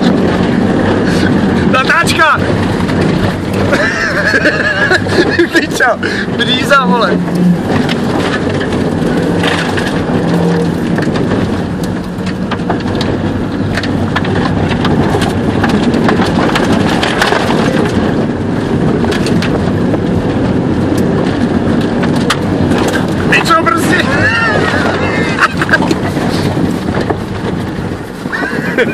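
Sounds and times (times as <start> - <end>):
car engine running hard: 0.0 - 28.9.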